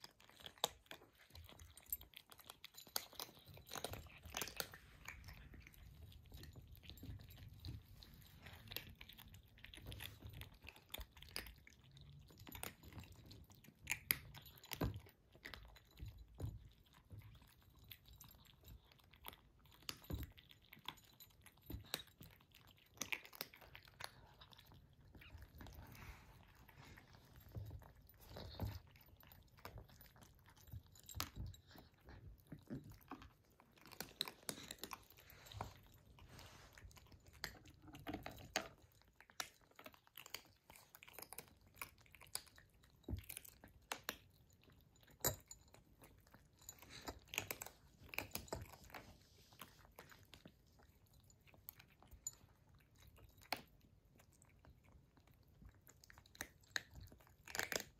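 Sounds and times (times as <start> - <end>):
kittens crunching dry kibble: 0.0 - 57.9.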